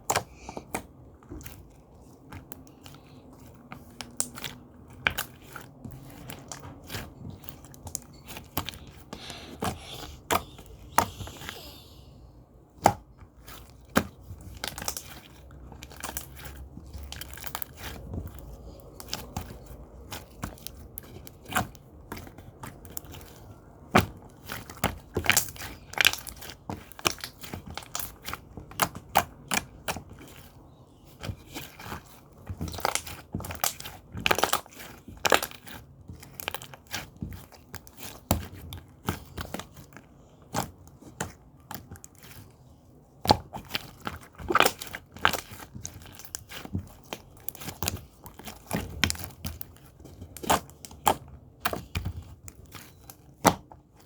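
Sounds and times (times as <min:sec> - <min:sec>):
crisp crackling and crunching: 0:00.0 - 0:54.0.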